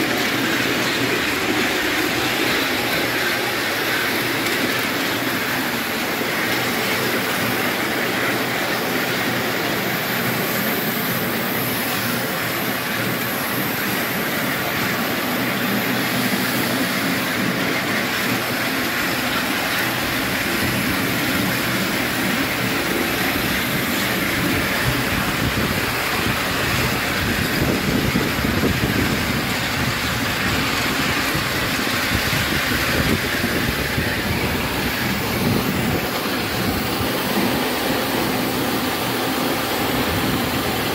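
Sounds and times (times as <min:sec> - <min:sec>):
steam locomotive exhaust beats: 0:00.0 - 0:40.9
wheels on rails: 0:00.0 - 0:40.9.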